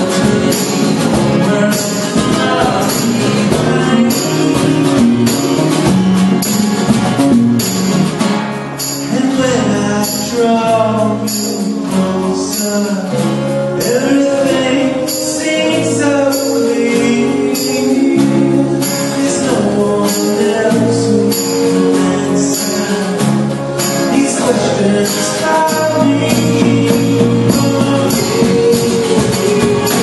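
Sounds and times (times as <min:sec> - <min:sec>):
man singing lead vocal: 0:00.0 - 0:06.0, 0:09.0 - 0:30.0
jingling percussion: 0:00.0 - 0:30.0
keyboard: 0:00.0 - 0:30.0
mandolin: 0:00.0 - 0:30.0
strummed acoustic guitar: 0:00.0 - 0:30.0.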